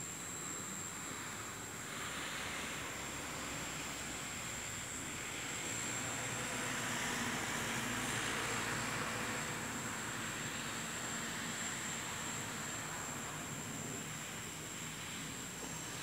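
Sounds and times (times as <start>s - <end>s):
thin high whine: 0.0s - 16.0s.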